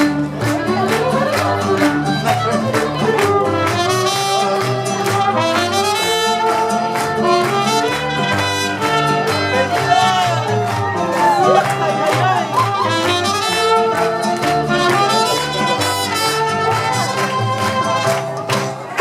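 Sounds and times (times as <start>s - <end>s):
mariachi band playing: 0.0s - 19.0s.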